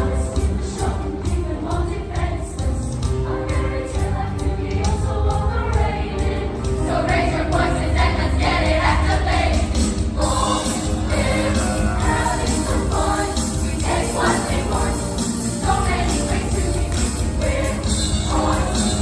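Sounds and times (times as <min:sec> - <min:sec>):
choir singing: 0:00.0 - 0:19.0
instrumental accompaniment with beat: 0:00.0 - 0:19.0.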